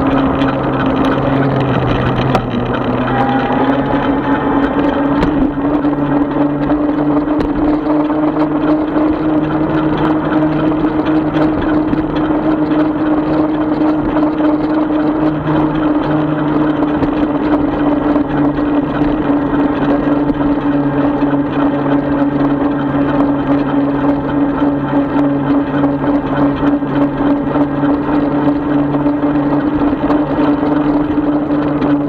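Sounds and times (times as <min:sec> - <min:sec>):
electric bike motor whine: 0:00.0 - 0:32.0
road and wind noise: 0:00.0 - 0:32.0.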